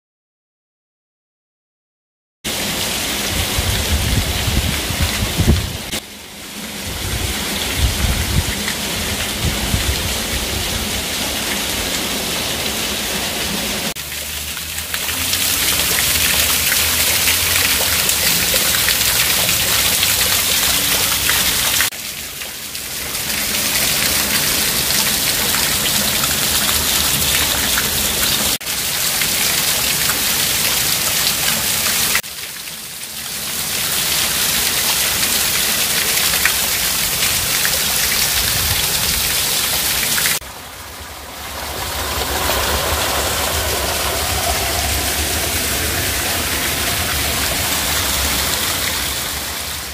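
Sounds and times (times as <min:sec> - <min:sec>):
water cascading over boulders: 0:02.5 - 0:49.9.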